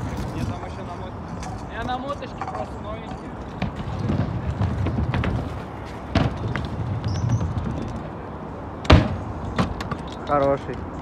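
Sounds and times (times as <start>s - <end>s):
skateboard wheels rumbling on concrete: 0.0s - 10.1s.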